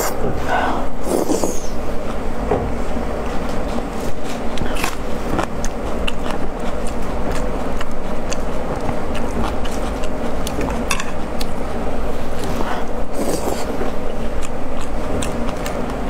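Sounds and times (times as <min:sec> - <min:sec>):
low background rumble: 0:00.0 - 0:16.0
chewing: 0:01.0 - 0:16.0.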